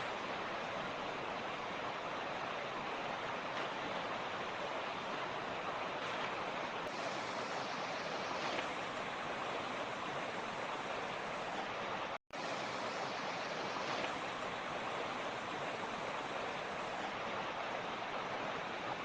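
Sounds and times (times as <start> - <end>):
creek water babbling over stones: 0.0 - 19.0.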